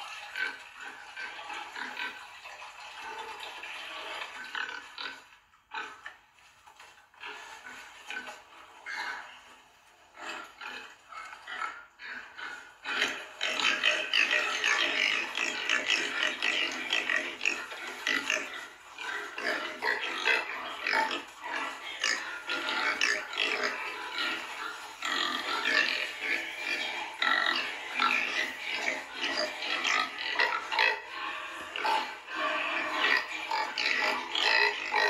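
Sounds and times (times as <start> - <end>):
piglets calling and grunting: 0.0 - 6.3, 7.1 - 35.0.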